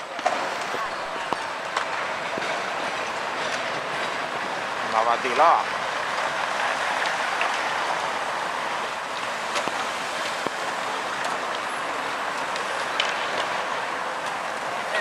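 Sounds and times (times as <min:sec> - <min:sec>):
passing vehicles: 0:00.0 - 0:15.0.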